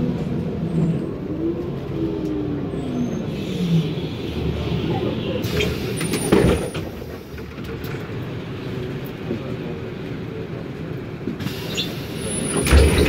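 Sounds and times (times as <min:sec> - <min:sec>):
bus engine low rumble: 0:00.0 - 0:13.0.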